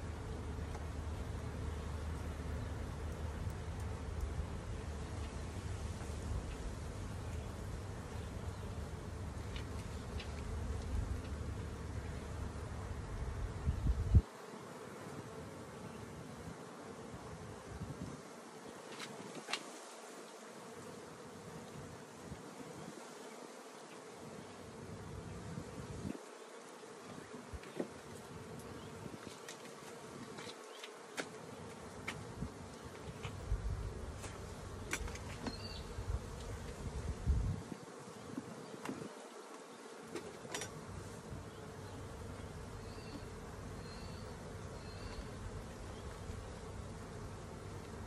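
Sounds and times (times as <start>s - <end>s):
bees buzzing at a hive: 0.0s - 48.0s.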